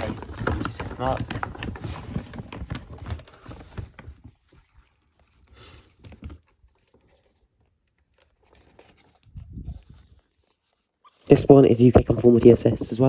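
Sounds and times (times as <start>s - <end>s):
plastic fittings clicking and rustling: 0.0s - 10.7s.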